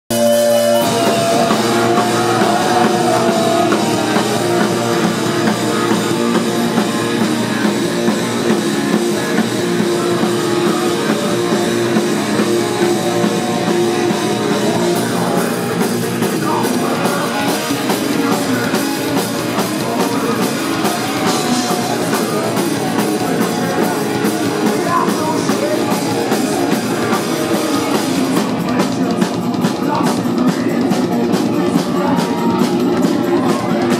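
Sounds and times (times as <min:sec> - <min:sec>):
drum kit: 0:00.0 - 0:33.9
electric guitar: 0:00.1 - 0:33.9
rock band playing live: 0:00.1 - 0:33.9.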